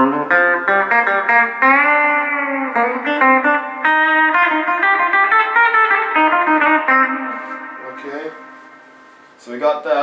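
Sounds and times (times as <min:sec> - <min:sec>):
electric guitar picked notes: 0:00.0 - 0:09.4.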